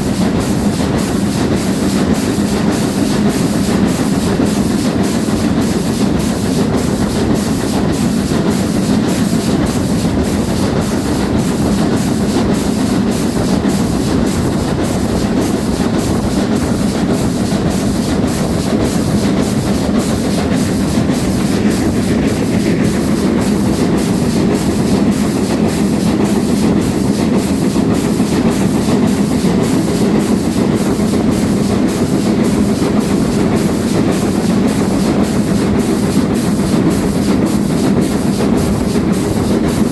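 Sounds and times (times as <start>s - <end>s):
steam train wheels rumbling: 0.0s - 39.9s.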